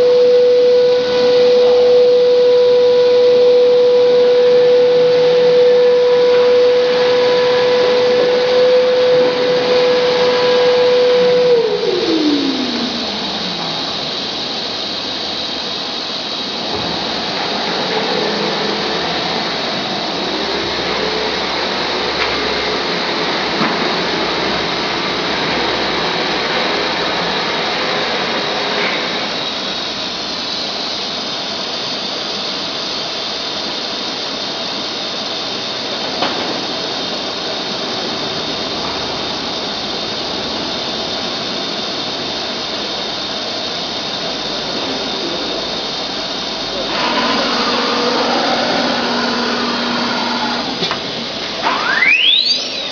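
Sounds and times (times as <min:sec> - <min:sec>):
cnc router spindle whirring: 0:00.0 - 0:52.9.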